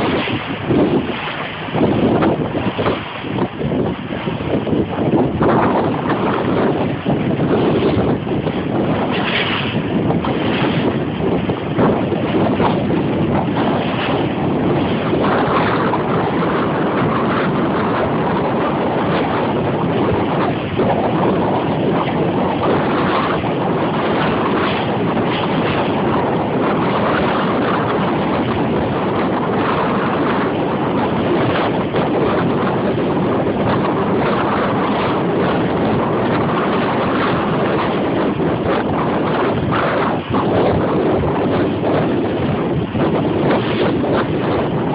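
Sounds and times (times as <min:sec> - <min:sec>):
boat under way: 0:00.0 - 0:44.9
water against hull: 0:00.0 - 0:44.9
wind buffeting microphone: 0:00.0 - 0:44.9.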